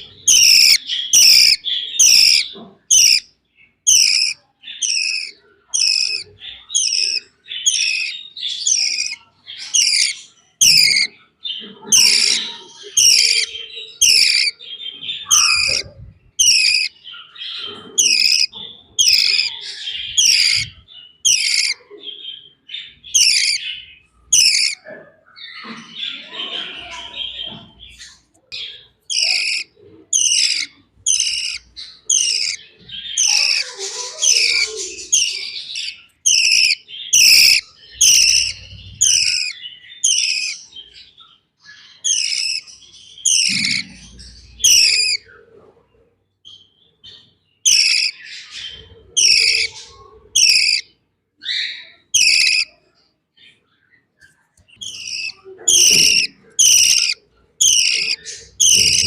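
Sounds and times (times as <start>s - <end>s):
budgie chick chirping: 0.0s - 45.9s, 46.6s - 52.9s, 53.5s - 59.0s.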